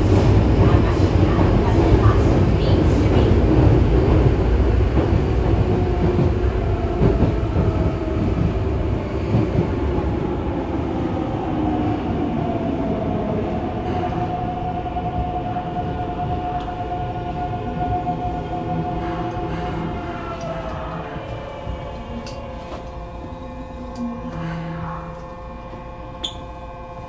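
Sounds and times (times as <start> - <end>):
rumble of wheels on rail: 0.0 - 27.0.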